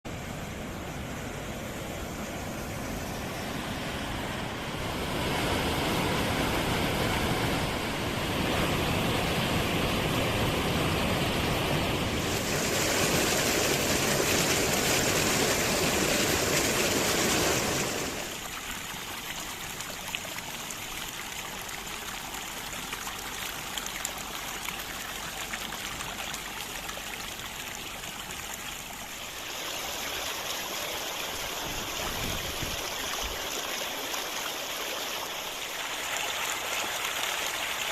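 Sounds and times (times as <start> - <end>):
fast mountain stream rushing: 0.1 - 37.9.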